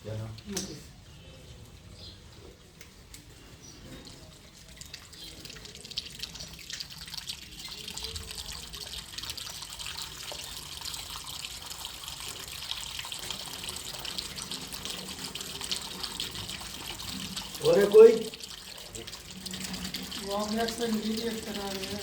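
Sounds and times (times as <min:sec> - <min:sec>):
water running and splashing: 0:02.5 - 0:22.0.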